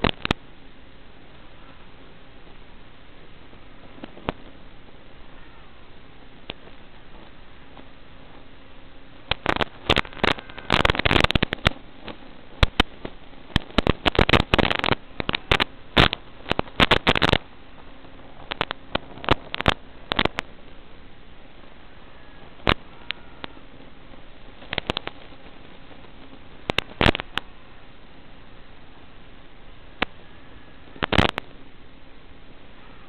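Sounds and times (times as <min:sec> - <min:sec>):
radio crackling and popping: 0:00.0 - 0:33.0
static hiss: 0:00.0 - 0:33.0.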